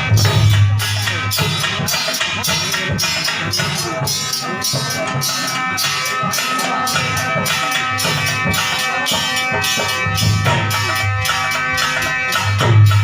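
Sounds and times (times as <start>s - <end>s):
instrumental music with quick beat: 0.0s - 13.0s.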